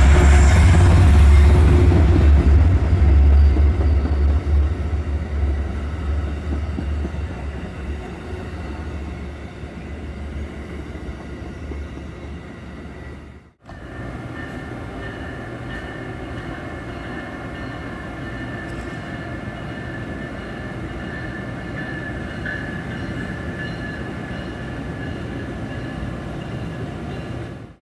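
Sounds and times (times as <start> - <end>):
train rumbling past: 0.0 - 27.8.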